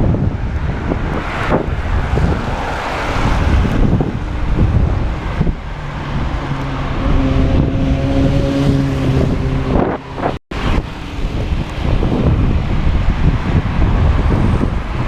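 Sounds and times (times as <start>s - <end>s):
motor vehicle engine hum: 0.0s - 15.0s
wind buffeting microphone: 0.0s - 15.0s.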